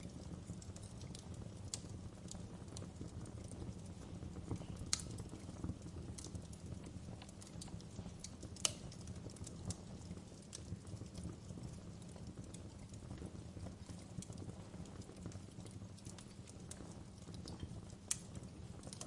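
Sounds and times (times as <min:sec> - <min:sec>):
sharp fire pops: 0:00.0 - 0:19.0
wood fire crackling: 0:00.0 - 0:19.0.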